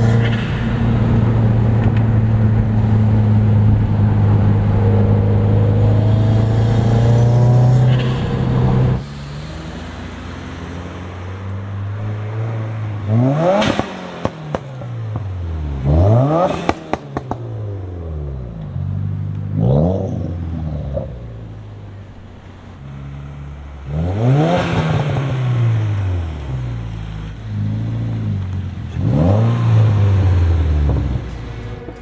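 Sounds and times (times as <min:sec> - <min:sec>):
car engine accelerating: 0:00.0 - 0:32.0
exhaust crackles: 0:00.0 - 0:32.0.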